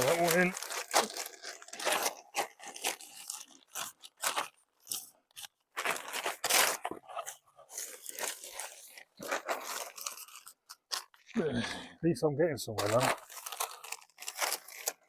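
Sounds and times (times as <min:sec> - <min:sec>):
plastic sheeting crinkling: 0:00.0 - 0:11.4, 0:12.8 - 0:15.0.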